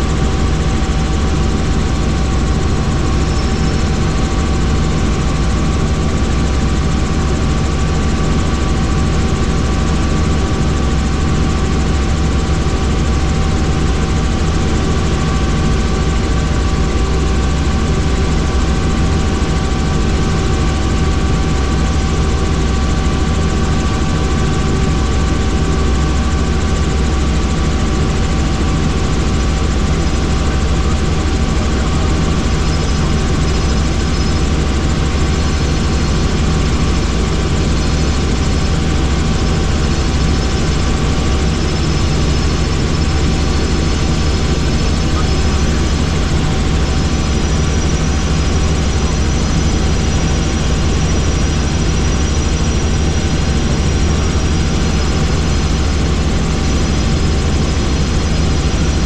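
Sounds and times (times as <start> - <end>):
helicopter drone and whine: 0.0 - 59.0.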